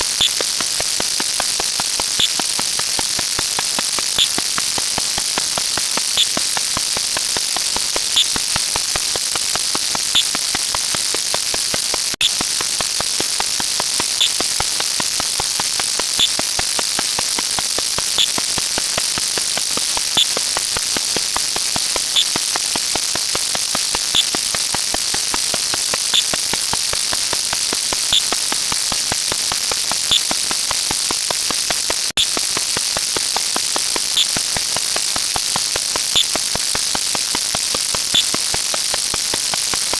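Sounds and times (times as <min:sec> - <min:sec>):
crackling static hiss: 0:00.0 - 0:39.9.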